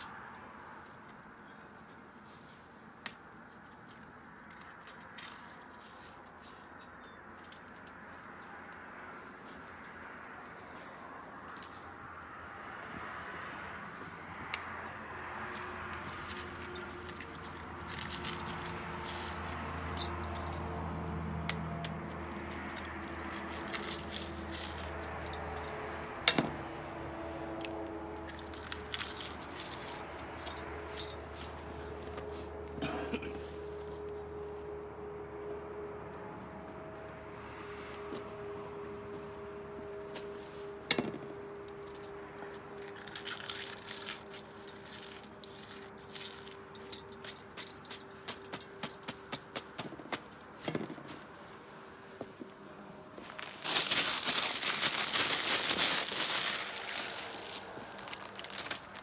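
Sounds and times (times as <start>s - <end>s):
crinkling and crunching of food: 0.0s - 32.6s, 41.0s - 59.0s.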